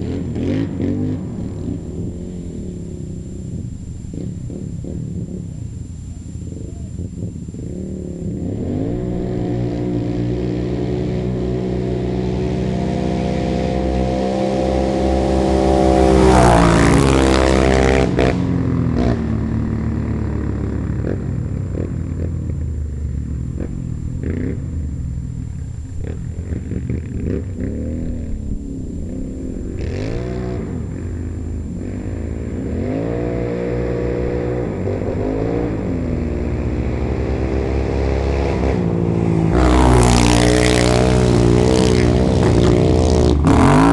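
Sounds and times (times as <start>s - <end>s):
atv engines revving: 0.0s - 43.9s.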